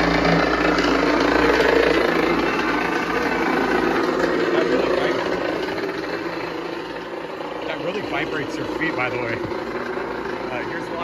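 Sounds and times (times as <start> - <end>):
vibrating floor mechanical rumble: 0.0 - 11.0.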